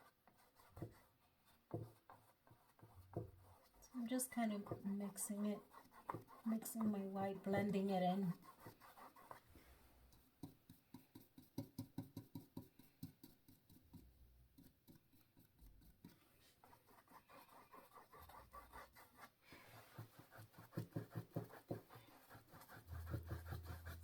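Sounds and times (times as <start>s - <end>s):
paintbrush scrubbing on canvas: 0.0s - 11.6s, 14.6s - 24.0s.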